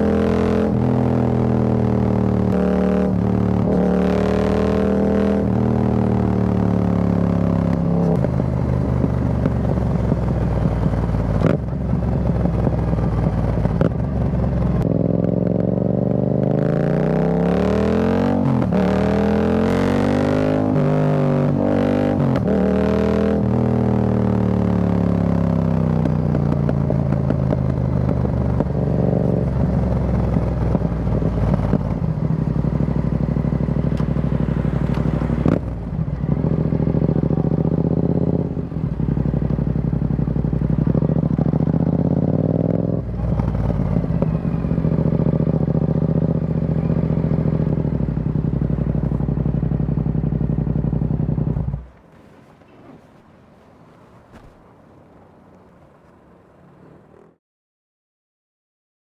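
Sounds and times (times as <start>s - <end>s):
motorcycle engine at low revs: 0.0s - 52.2s.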